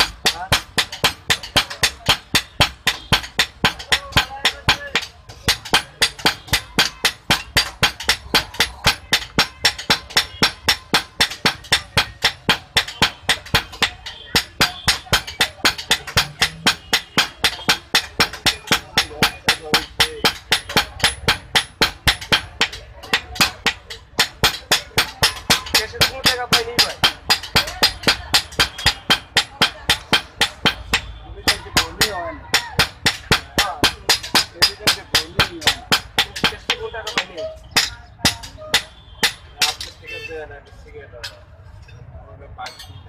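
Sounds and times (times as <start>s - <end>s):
hammers striking steel on anvil: 0.0s - 40.3s, 42.6s - 43.0s.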